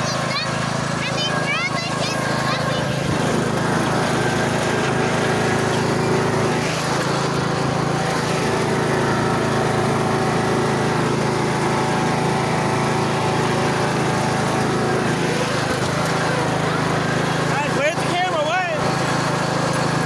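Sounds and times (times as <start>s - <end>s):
riding lawn mower engine: 0.0s - 20.0s.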